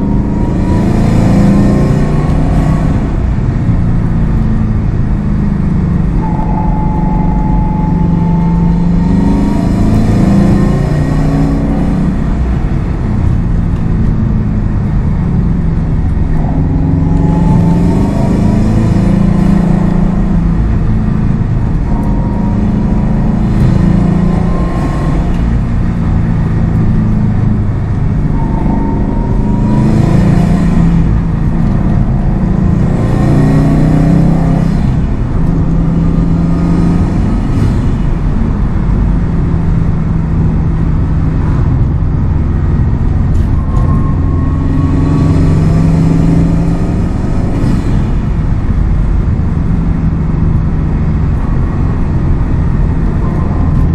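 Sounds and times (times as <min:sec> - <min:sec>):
car engine accelerating through gears: 0:00.0 - 0:53.9
rising whine: 0:00.0 - 0:53.9.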